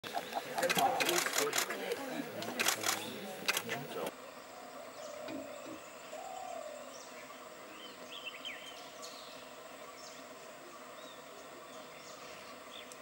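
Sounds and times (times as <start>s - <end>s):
faint hiss: 0.1s - 13.0s.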